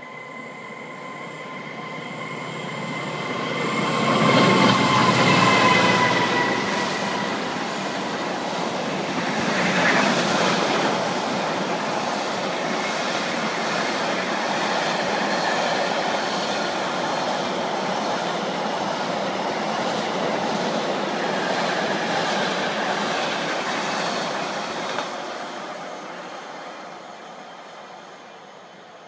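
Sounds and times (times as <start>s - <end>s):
train wheels rushing on rail: 0.0s - 29.0s.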